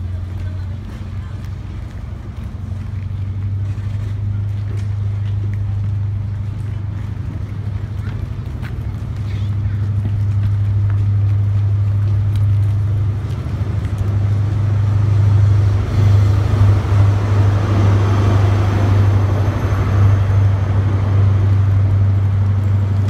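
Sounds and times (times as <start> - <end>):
train engines droning: 0.0 - 23.0.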